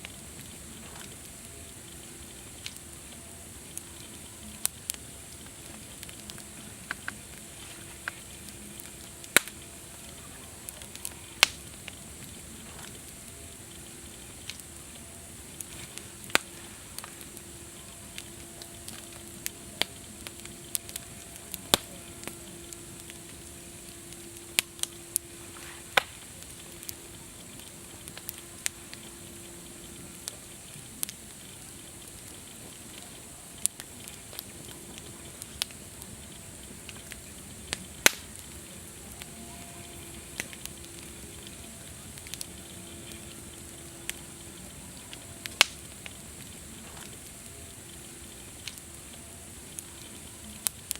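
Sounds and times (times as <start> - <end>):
campfire crackling: 0.0 - 50.9.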